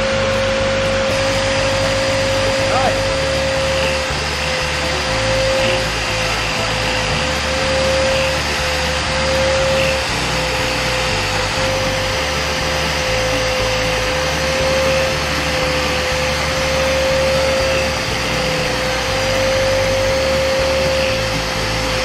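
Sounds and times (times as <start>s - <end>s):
rotary sander high whine: 0.0s - 22.0s
sanding pad scouring rust: 0.0s - 22.0s.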